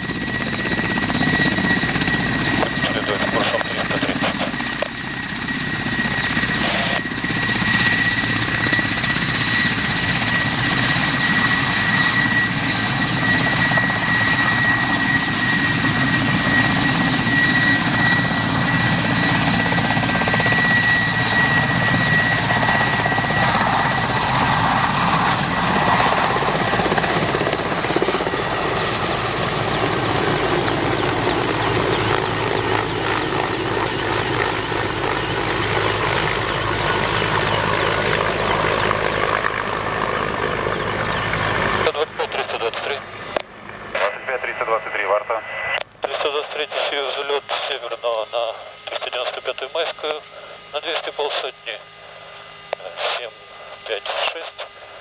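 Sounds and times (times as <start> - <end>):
helicopter rotor noise: 0.0 - 55.0
high turbine whine: 0.0 - 55.0.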